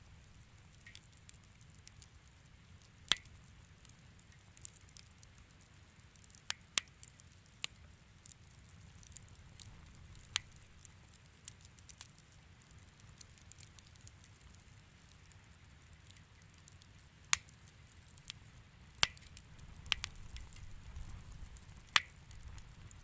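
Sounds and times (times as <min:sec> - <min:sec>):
wood fire popping: 0:00.0 - 0:23.0.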